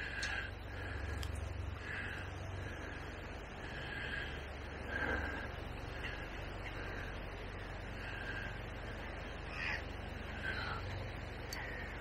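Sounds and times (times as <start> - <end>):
bird calling: 0.0 - 12.0
steady low rumble: 0.0 - 12.0.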